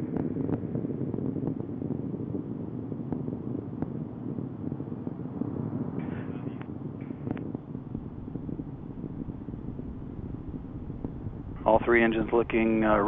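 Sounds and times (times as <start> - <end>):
distant rocket roar: 0.0 - 13.0
faint crackles: 0.0 - 13.0.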